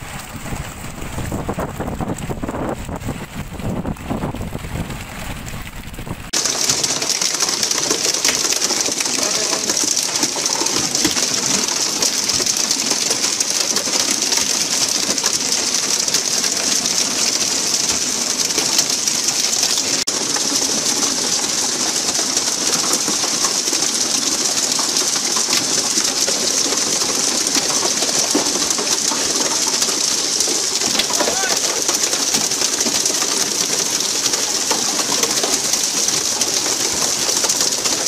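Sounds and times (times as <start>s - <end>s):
wind: 0.0s - 38.0s.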